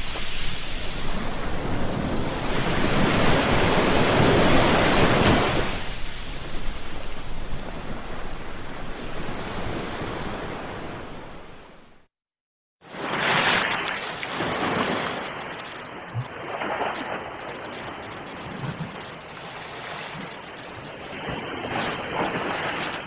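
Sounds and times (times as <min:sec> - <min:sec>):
ocean surf rushing water: 0:00.0 - 0:12.1, 0:12.8 - 0:23.0.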